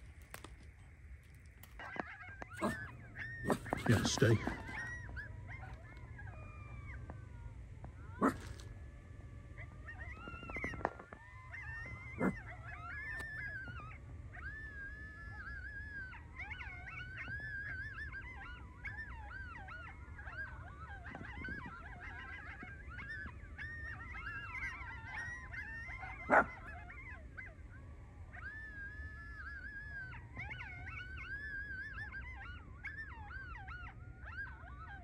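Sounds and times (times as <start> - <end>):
coyotes yipping and howling: 0.0 - 35.0.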